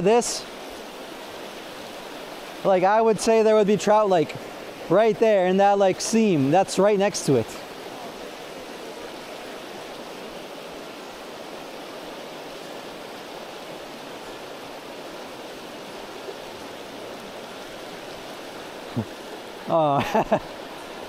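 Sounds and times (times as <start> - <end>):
river running over rocks: 0.0 - 21.0.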